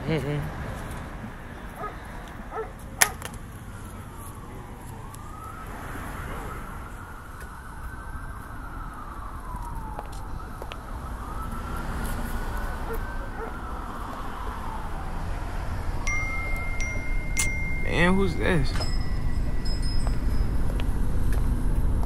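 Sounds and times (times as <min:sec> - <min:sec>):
low street rumble: 0:00.0 - 0:22.0
emergency vehicle siren wailing: 0:00.8 - 0:22.0.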